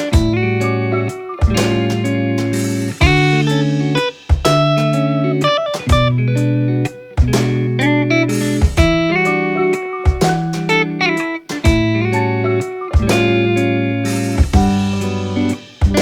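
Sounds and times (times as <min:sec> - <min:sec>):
guitar chords ringing: 0:00.0 - 0:16.0.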